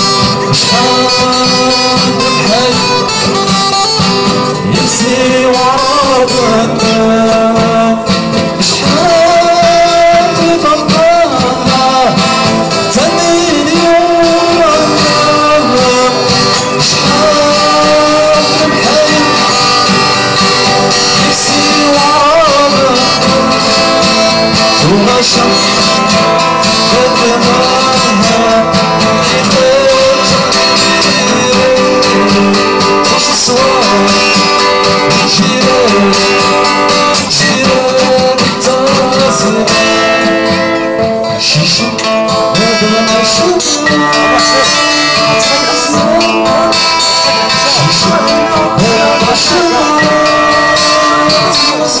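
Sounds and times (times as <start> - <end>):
acoustic guitars strummed: 0.0 - 52.0
man singing: 0.0 - 52.0.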